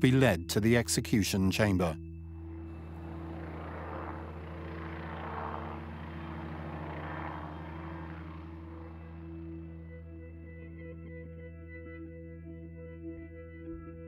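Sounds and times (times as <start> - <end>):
helicopter flying overhead: 0.0 - 11.5
steady low drone: 0.0 - 14.0.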